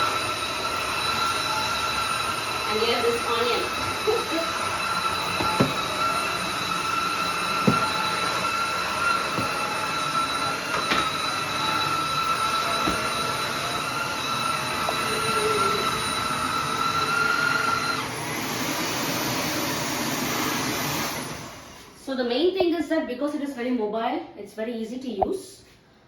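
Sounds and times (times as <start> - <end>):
floor washer whining: 0.0 - 22.0.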